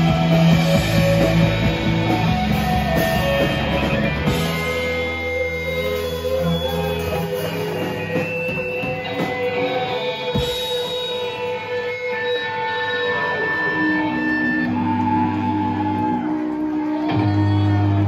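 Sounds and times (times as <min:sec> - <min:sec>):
droning electric guitars: 0:00.0 - 0:18.0.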